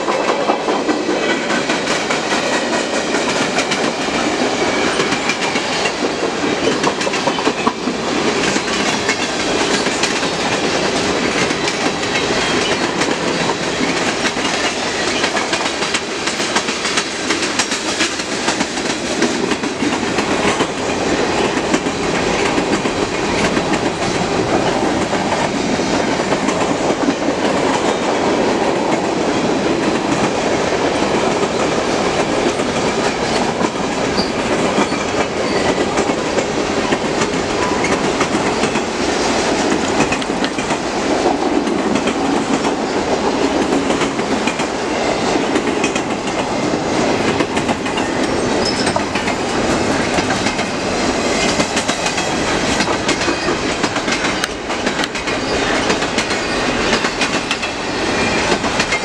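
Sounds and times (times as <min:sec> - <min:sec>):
freight train wheels rushing: 0:00.0 - 0:59.0
wheels clicking over rail joints: 0:00.0 - 0:59.0.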